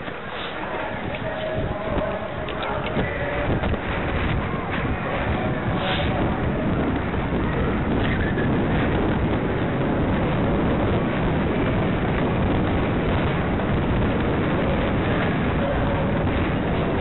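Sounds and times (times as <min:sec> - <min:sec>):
heavy wind buffeting microphone: 0:00.0 - 0:17.0.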